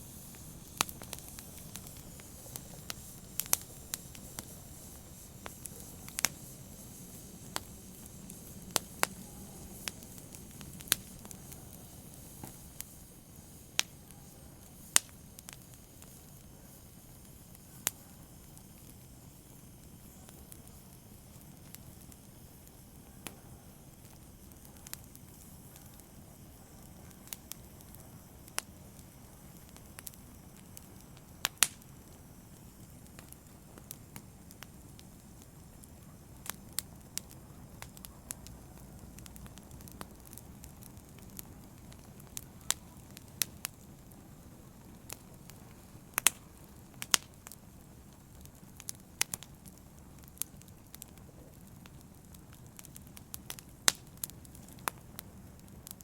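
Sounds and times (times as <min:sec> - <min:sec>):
fire crackles and pops: 0:00.0 - 0:56.0
open fire hissing: 0:00.0 - 0:56.0.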